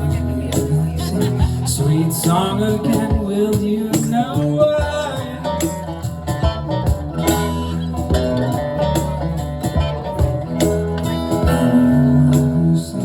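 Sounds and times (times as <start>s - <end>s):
plucked guitar: 0.0s - 13.0s
sustained bass line: 0.0s - 13.0s.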